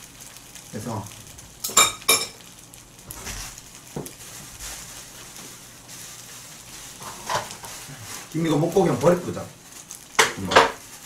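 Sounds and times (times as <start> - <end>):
fried rice sizzling: 0.0 - 11.0.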